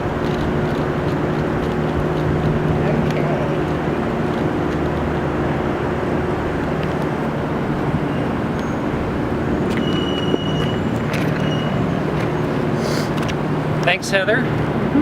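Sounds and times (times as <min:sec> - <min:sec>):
city traffic noise: 0:00.0 - 0:15.0
low engine hum: 0:00.0 - 0:15.0.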